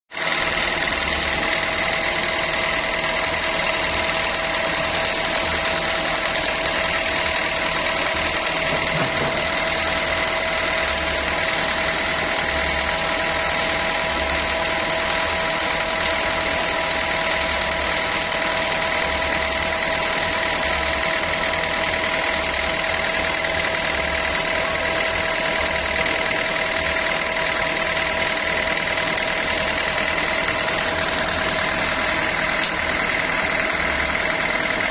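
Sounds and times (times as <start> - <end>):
machinery humming: 0.2 - 34.9
sawmill saw whining: 0.2 - 34.9.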